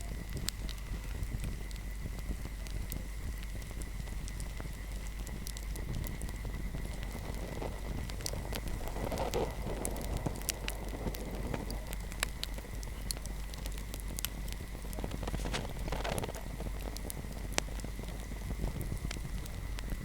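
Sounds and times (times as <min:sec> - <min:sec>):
rushing of flames: 0:00.0 - 0:20.0
wood fire crackling: 0:00.0 - 0:20.0.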